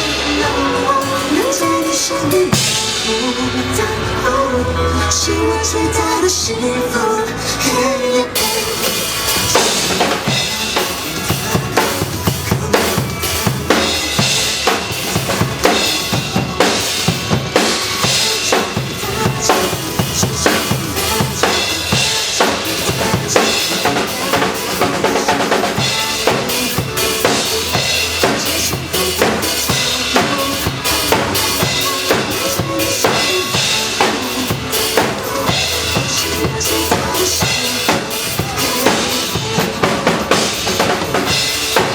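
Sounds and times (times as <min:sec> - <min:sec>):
drum kit beat: 0:00.0 - 0:03.7, 0:08.4 - 0:41.9
backing music: 0:00.0 - 0:41.9.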